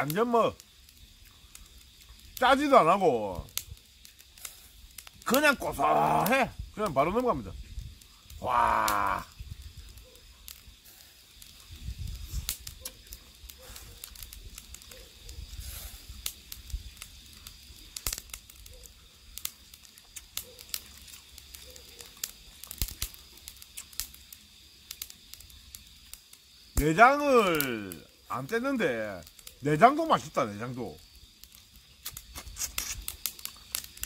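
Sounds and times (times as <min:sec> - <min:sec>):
sharp crackles: 0:00.0 - 0:34.0.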